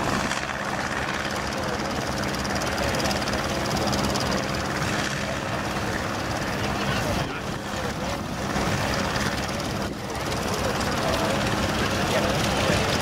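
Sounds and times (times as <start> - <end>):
combine harvester machinery drone: 0.0 - 13.0.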